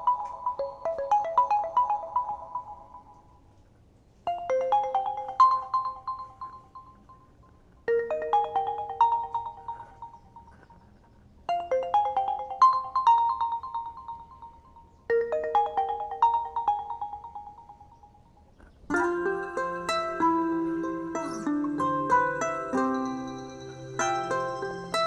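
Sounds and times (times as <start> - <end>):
phone ringtone melody: 0.0 - 3.5, 4.3 - 10.7, 11.5 - 18.3, 18.9 - 25.0.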